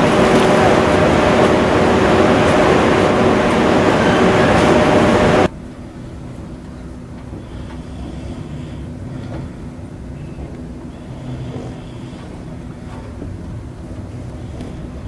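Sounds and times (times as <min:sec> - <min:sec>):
locomotive cooling blowers roaring: 0:00.0 - 0:15.0
train interior rumble: 0:00.0 - 0:15.0.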